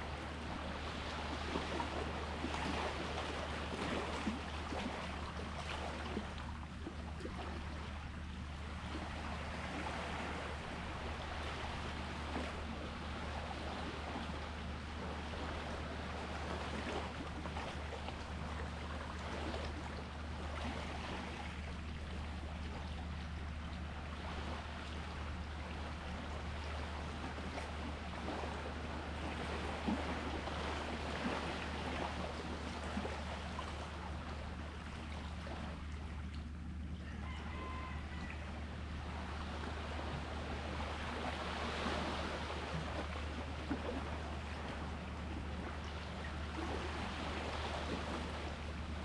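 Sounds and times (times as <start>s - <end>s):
steady low hum: 0.0s - 37.3s, 37.9s - 49.0s
sea water washing: 0.0s - 49.0s.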